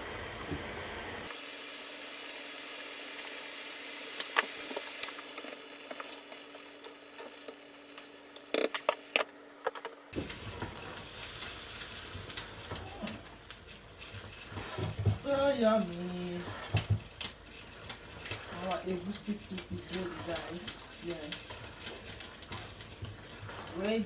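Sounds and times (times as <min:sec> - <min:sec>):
soup simmering with sizzling hiss: 0:00.0 - 0:24.0.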